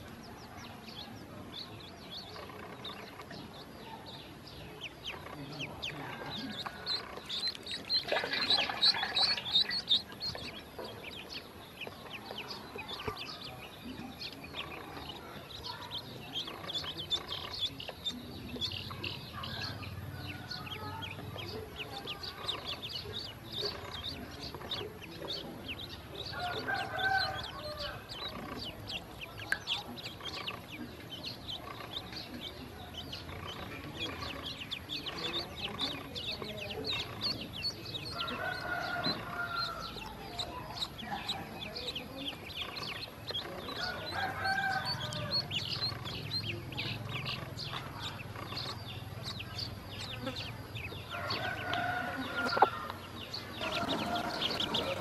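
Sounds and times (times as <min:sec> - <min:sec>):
ducklings peeping: 0:00.0 - 0:55.0.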